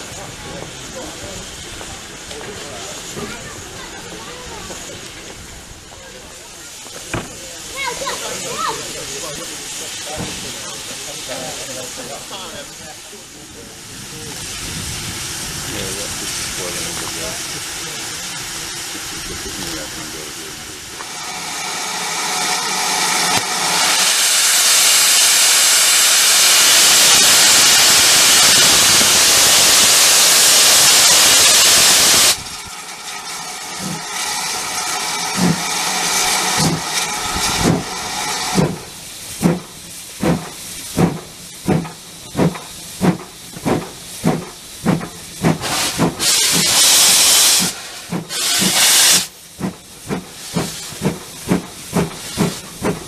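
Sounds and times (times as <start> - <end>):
steam hissing: 0.0 - 53.0
steam locomotive exhaust chuffs: 0.0 - 53.0.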